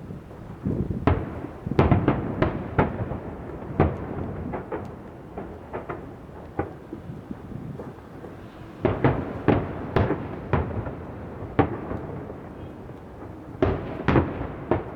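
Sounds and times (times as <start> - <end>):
fireworks booms and cracks: 0.0 - 14.9.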